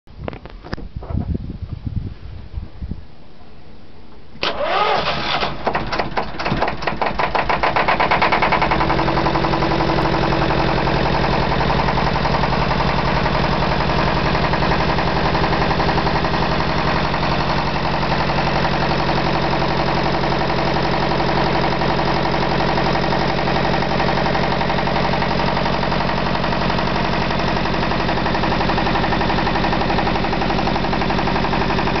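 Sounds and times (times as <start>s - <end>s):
diesel engine starting and idling: 4.4s - 32.0s.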